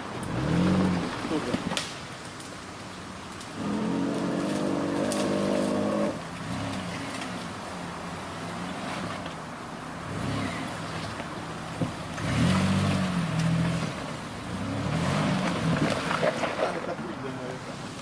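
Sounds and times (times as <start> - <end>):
suv engine revving under load: 0.0 - 1.9, 3.4 - 16.8.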